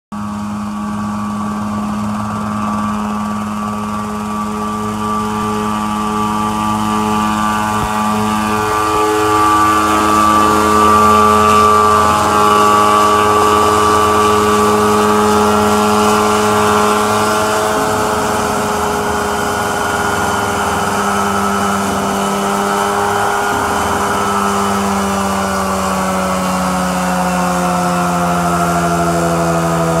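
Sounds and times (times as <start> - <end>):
helicopter engine and rotor running: 0.1 - 30.0.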